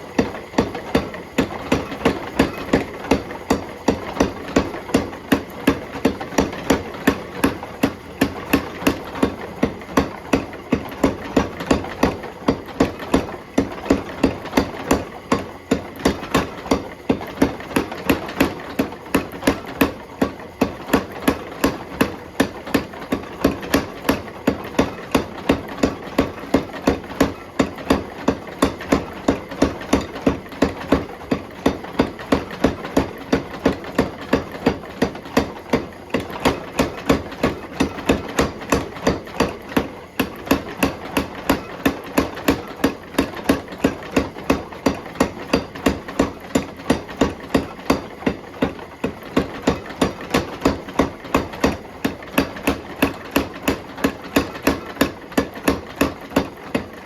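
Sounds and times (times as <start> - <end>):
steady mechanical hum: 0.0 - 57.0.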